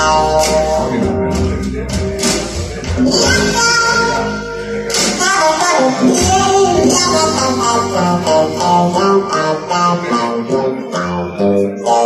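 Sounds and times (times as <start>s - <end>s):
song with guitar and singing: 0.0s - 12.0s.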